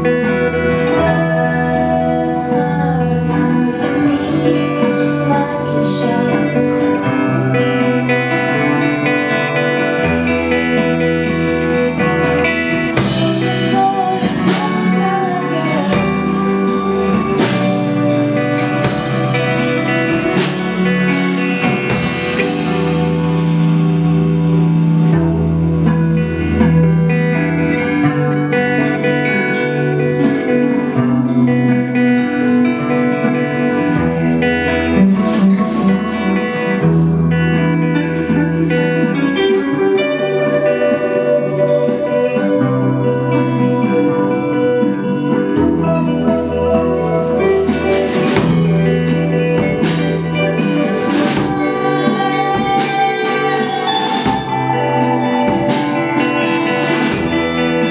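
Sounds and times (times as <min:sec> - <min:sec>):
live band music: 0:00.0 - 0:57.9.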